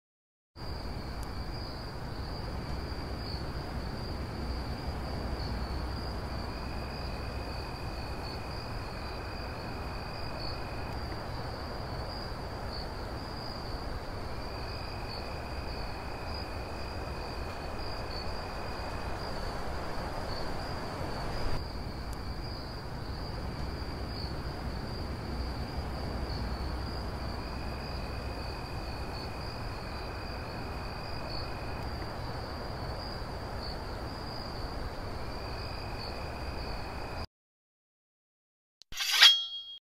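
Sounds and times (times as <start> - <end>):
crickets chirping: 0.6 - 37.3
lower insect trill: 0.6 - 37.3.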